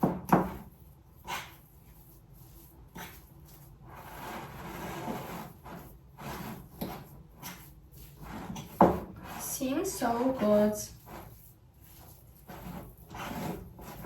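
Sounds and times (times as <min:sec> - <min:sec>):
utensil stirring dough in bowl: 0:00.0 - 0:14.0.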